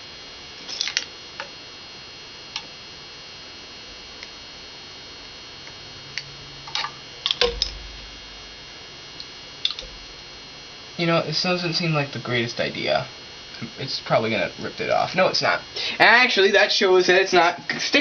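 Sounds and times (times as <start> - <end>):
faint background hum: 0.0 - 18.0.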